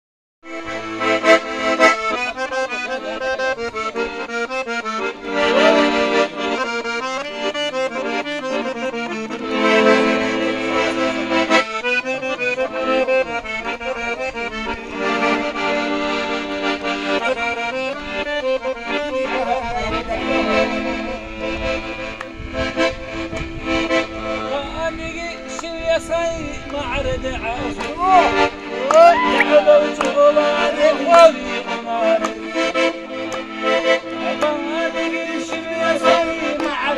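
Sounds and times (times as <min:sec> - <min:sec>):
accordion folk melody: 0:00.4 - 0:36.9.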